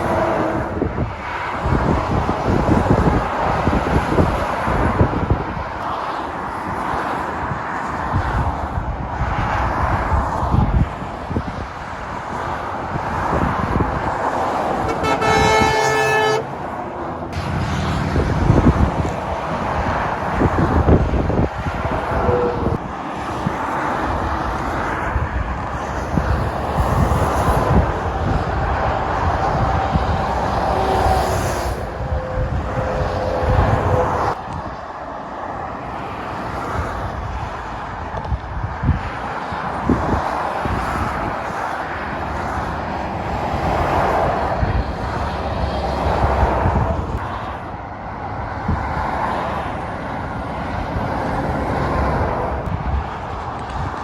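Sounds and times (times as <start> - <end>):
diesel engines: 0.0 - 54.0
tyres rushing on motorway: 0.0 - 54.0.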